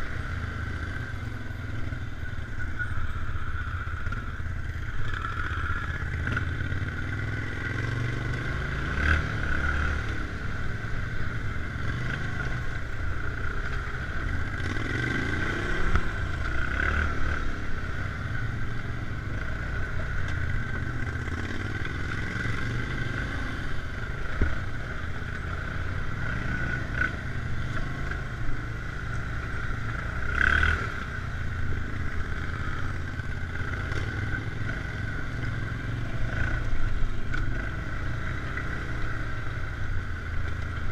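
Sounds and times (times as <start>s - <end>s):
atv engines running: 0.0s - 40.9s.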